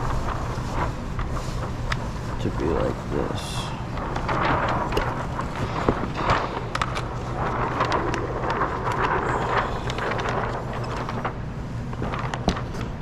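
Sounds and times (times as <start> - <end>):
plastic film rustling and crinkling: 0.0 - 13.0
steady low hum: 0.0 - 13.0.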